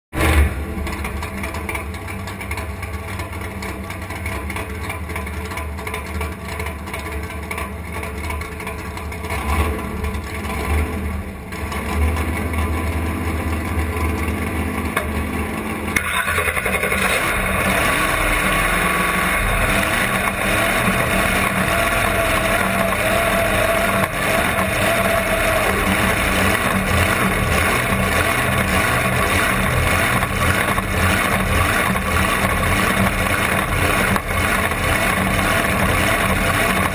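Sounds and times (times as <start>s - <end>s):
dragster engine running: 0.1s - 36.9s.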